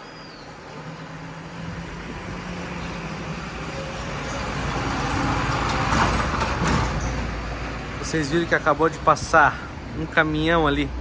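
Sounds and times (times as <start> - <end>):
truck approaching: 0.0 - 11.0.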